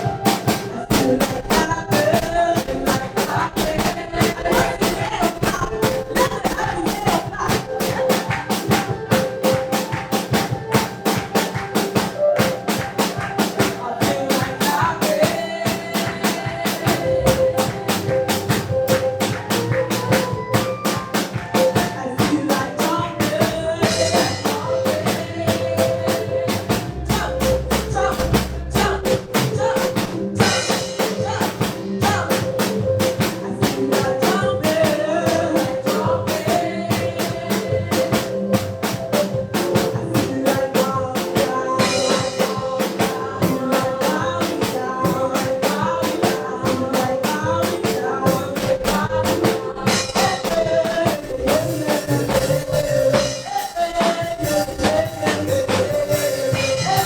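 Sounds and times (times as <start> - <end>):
drum kit beat: 0.0 - 57.0
gospel band instrumental: 0.0 - 57.0.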